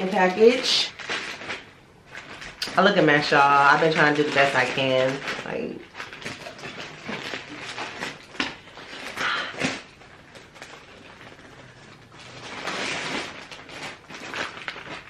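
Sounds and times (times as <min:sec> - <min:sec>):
package rustling: 0:00.0 - 0:15.0.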